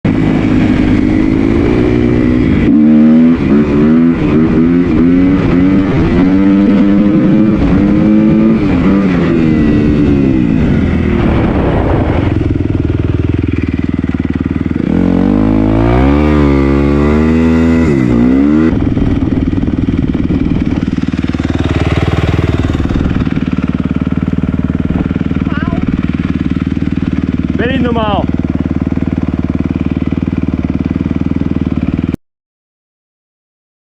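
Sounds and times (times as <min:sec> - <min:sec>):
motocross bike engine revving: 0:00.1 - 0:32.2.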